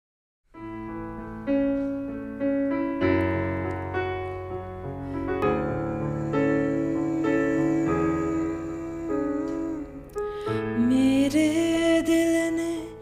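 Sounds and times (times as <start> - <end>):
piano chords: 0.5 - 13.0.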